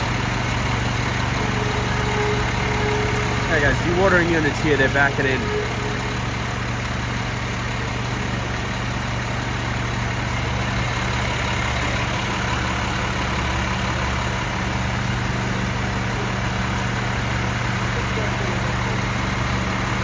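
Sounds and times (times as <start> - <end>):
truck engines idling: 0.0 - 20.0.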